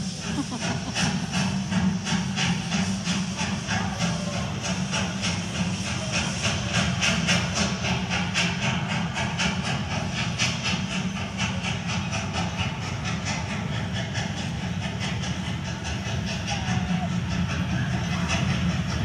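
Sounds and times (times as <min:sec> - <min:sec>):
train chugging hiss: 0:00.0 - 0:19.0.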